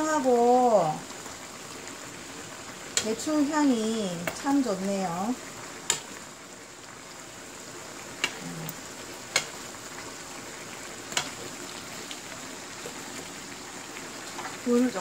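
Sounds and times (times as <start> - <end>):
stew bubbling and sizzling in pan: 0.0 - 15.0.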